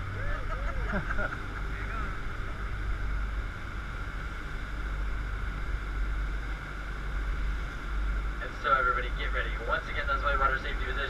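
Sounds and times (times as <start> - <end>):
boat engine: 0.0 - 11.0.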